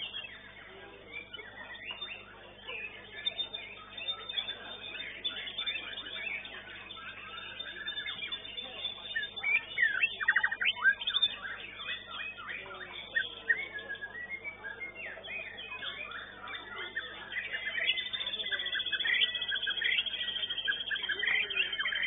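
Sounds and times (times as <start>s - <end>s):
other songbirds singing: 0.0s - 22.0s
songbird whistling and trilling: 0.0s - 22.0s.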